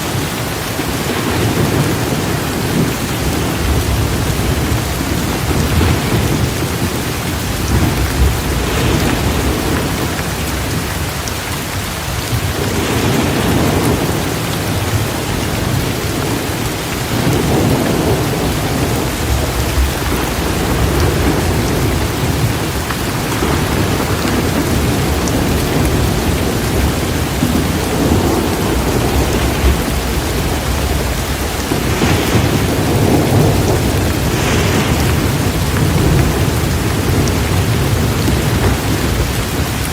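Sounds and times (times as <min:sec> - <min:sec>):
heavy rain pouring: 0:00.0 - 0:39.9
low thunder rumbling: 0:00.0 - 0:39.9.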